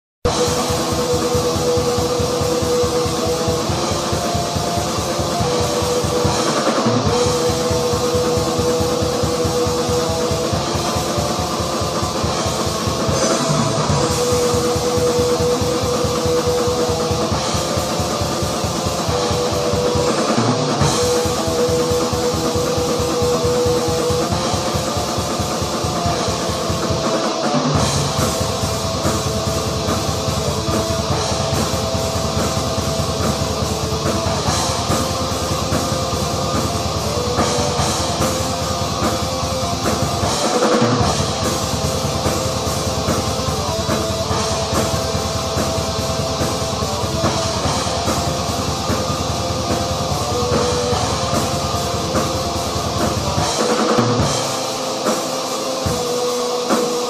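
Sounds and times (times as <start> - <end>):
fast drumming: 0.2 - 57.0
droning guitar riff: 0.3 - 57.0.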